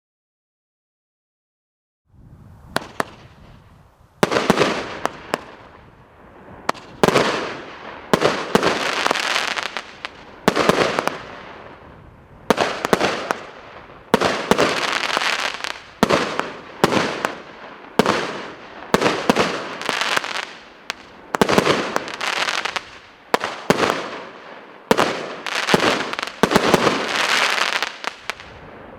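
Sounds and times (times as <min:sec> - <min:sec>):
firework shots with crackling: 0:02.7 - 0:03.6, 0:04.2 - 0:28.9.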